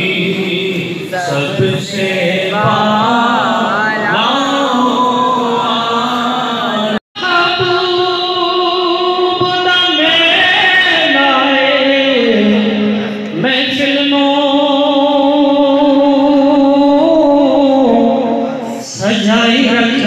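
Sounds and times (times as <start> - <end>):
man singing long held notes: 0.0 - 20.0.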